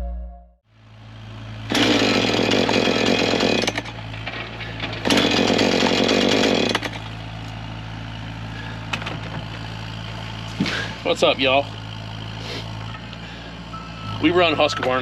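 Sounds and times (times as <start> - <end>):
chainsaw revving and idling: 1.1 - 4.0, 4.6 - 8.9, 9.5 - 14.3.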